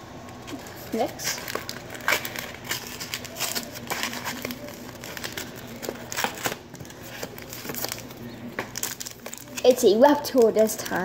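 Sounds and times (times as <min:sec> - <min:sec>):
wrapper crinkling and tearing: 0:00.3 - 0:11.0.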